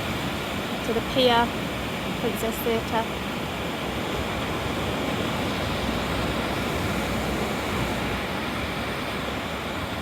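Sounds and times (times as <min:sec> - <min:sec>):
rough surf: 0:00.0 - 0:10.0
wind: 0:00.0 - 0:10.0.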